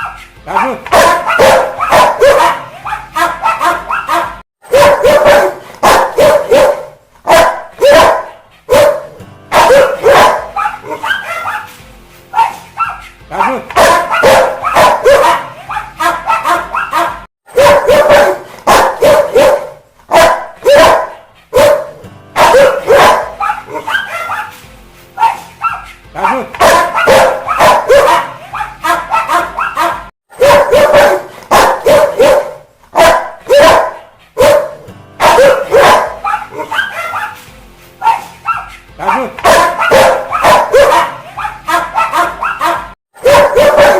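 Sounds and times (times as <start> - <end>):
dog barking angrily: 0.0 - 11.7, 12.4 - 24.6, 25.2 - 37.4, 38.0 - 43.9.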